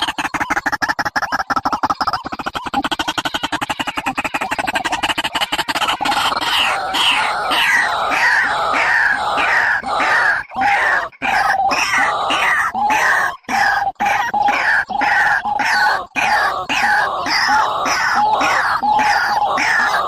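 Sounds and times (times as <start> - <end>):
fast pulsing bird call: 0.0 - 20.0.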